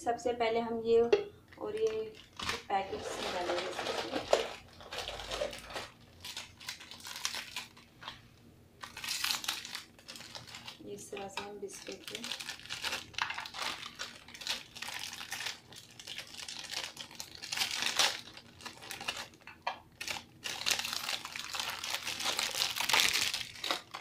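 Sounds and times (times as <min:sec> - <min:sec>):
plastic wrapper crinkling: 0:01.5 - 0:24.0.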